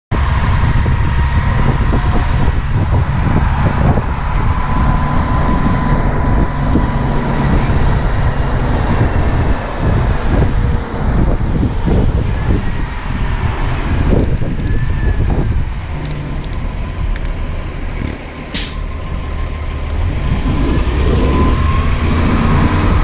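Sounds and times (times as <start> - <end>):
bus engine running: 0.1 - 23.0
wind buffeting microphone: 0.1 - 23.0.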